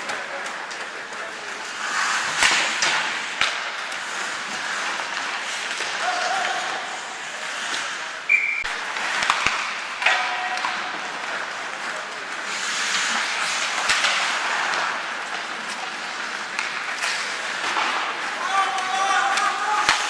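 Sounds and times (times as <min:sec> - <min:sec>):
hockey sticks and puck clacking: 0:00.0 - 0:20.0.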